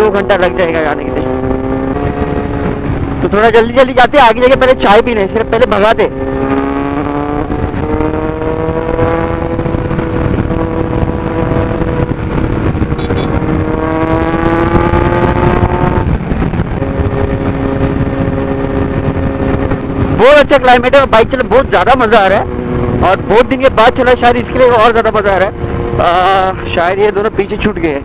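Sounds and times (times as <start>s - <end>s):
heavy wind rush: 0.0s - 28.0s.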